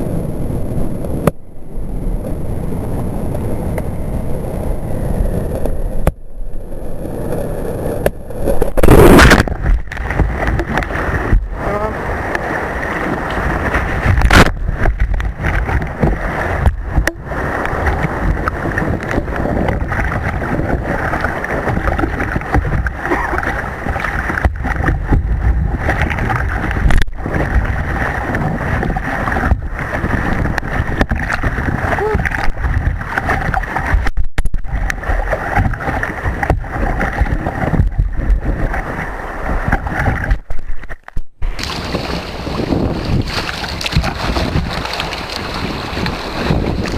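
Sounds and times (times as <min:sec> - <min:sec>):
water rushing and splashing: 0:00.0 - 0:46.9
wind on microphone: 0:00.0 - 0:46.9.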